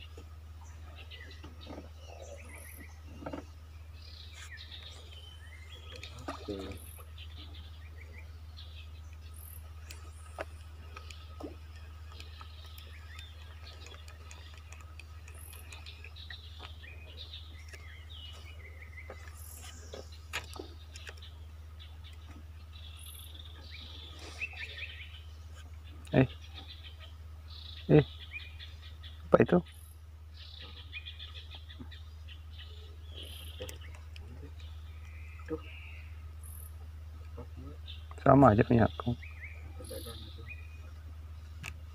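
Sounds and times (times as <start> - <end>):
birds chirping and calling: 0.0 - 41.9
steady low hum: 0.0 - 41.9.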